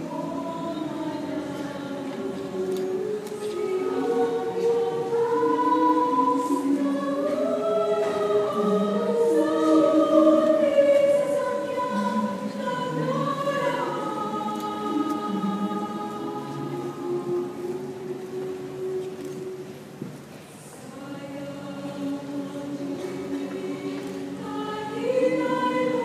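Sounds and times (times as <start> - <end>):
mixed choir singing in harmony: 0.0 - 20.0, 20.6 - 26.0.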